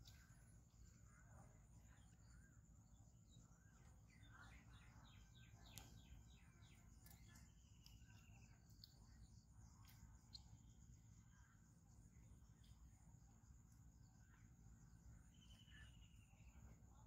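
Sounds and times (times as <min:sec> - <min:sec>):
distant birds chirping: 0:00.0 - 0:11.2, 0:14.0 - 0:17.0.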